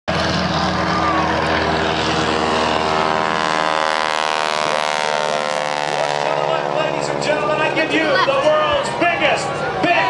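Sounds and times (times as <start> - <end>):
aircraft engine droning: 0.1 - 10.0.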